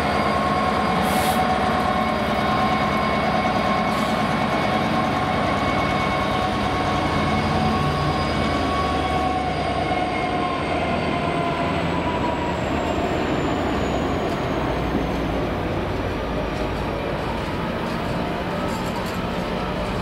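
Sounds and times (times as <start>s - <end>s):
diesel locomotive passing: 0.0s - 20.0s
train wagons rumbling on rails: 0.0s - 20.0s.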